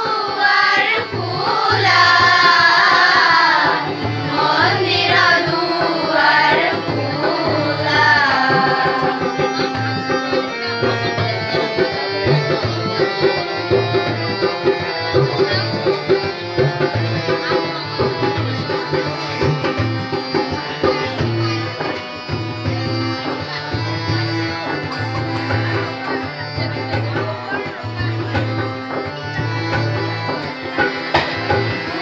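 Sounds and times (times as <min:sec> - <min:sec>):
children's choir singing: 0:00.0 - 0:26.9, 0:30.0 - 0:32.0
harmonium: 0:00.0 - 0:32.0
tabla drumming: 0:00.0 - 0:32.0.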